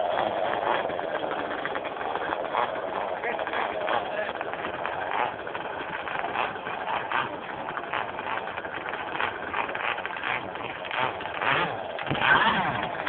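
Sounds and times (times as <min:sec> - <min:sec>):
powerboat engines buzzing: 0:00.0 - 0:13.0.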